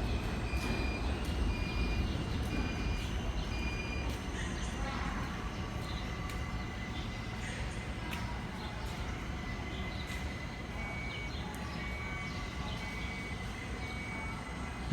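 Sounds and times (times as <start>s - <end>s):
subway train running: 0.0s - 14.9s.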